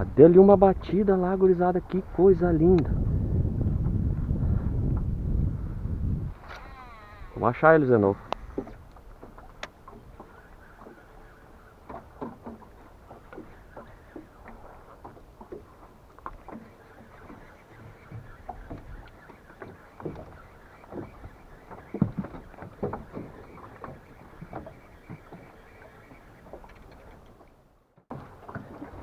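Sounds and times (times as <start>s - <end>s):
waves lapping against metal hull: 0.0s - 29.0s.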